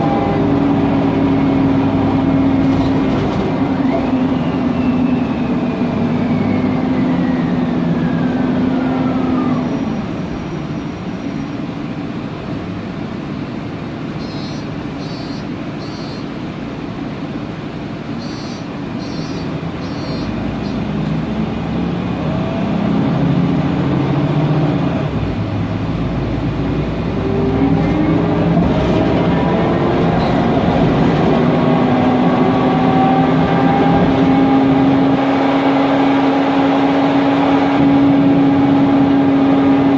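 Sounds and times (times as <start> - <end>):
bus engine and gearbox whine: 0.0 - 39.9.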